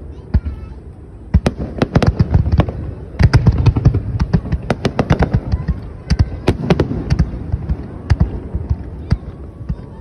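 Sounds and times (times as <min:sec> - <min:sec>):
firework shells bursting: 0:01.3 - 0:09.9.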